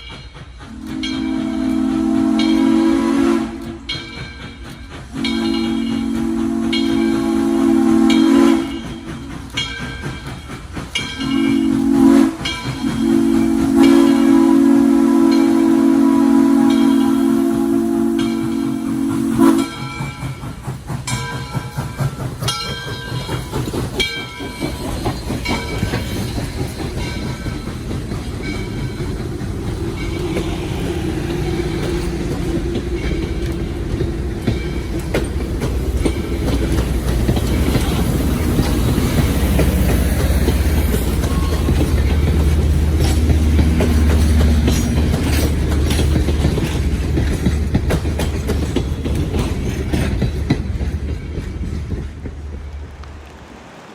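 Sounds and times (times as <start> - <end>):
train rumble: 0.0 - 53.9
wheels clanking over rail joints: 0.0 - 53.9.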